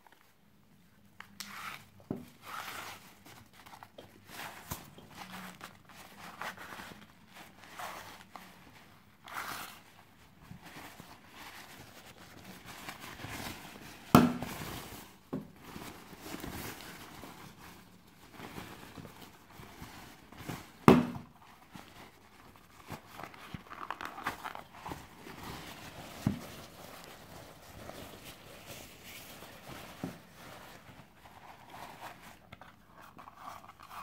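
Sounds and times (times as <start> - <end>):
nylon bag rustling: 2.3 - 32.5.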